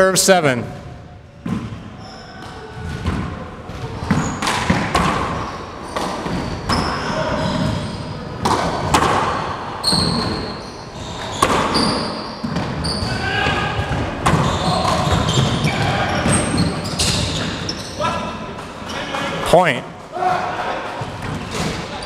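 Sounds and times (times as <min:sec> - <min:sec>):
sneakers squeaking on hardwood: 0:01.4 - 0:19.4.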